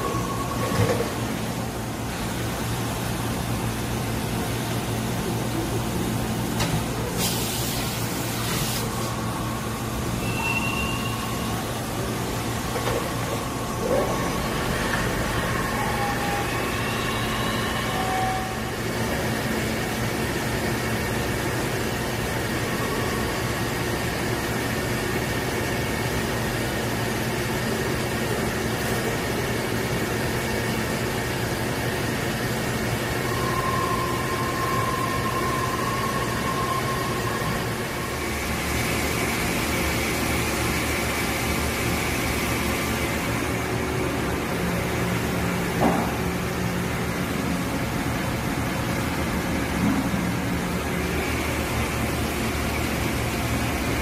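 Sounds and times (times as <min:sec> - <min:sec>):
machine whine: 0:00.0 - 0:07.1, 0:07.9 - 0:54.0
lathe machine hum and hiss: 0:00.0 - 0:54.0.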